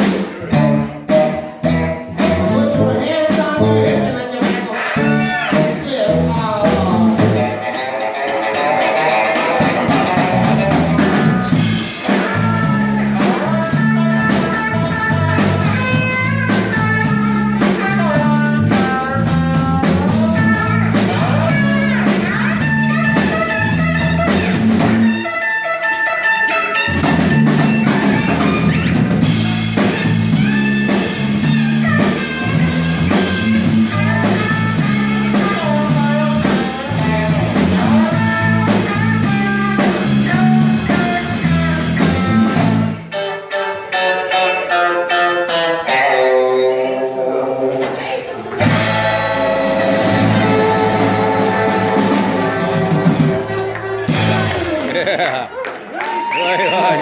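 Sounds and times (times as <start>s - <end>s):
guitar lines: 0.0s - 57.0s
live blues band playing: 0.0s - 57.0s.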